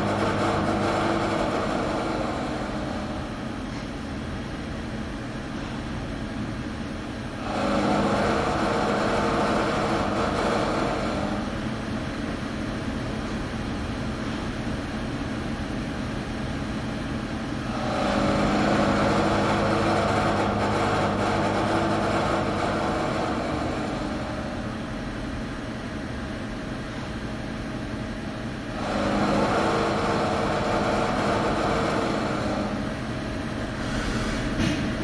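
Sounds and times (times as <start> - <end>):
lathe machine running: 0.0 - 3.7, 7.1 - 14.2, 15.8 - 34.5.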